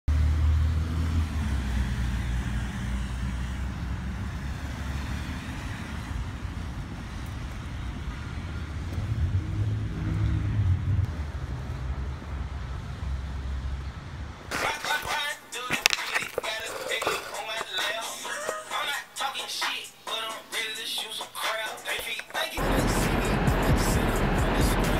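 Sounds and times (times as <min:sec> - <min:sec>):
passing cars rumbling: 0:00.1 - 0:18.5, 0:22.6 - 0:24.9.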